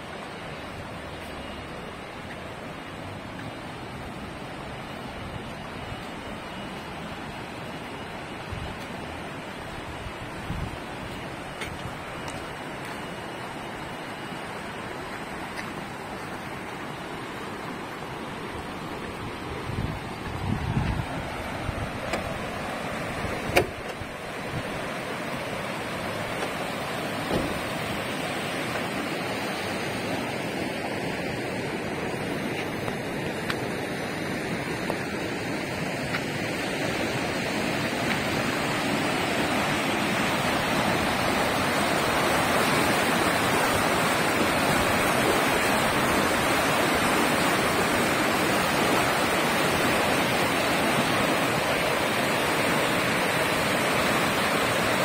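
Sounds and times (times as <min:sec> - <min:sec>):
turbulent water rushing: 0:00.0 - 0:55.0.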